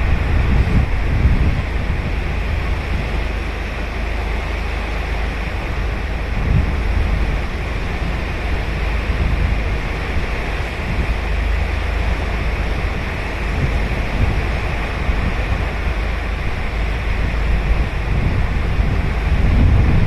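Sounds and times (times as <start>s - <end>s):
surf washing onto a beach: 0.0s - 20.0s
wind buffeting microphone: 0.0s - 20.0s.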